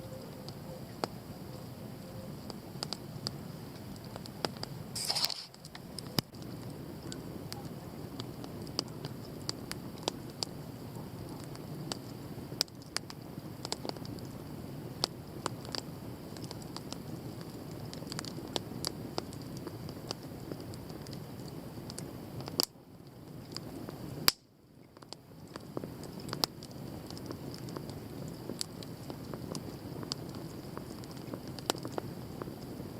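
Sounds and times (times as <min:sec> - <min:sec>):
fire crackling and popping: 0:00.0 - 0:32.9
bonfire flame rushing: 0:00.5 - 0:24.4, 0:25.0 - 0:32.9.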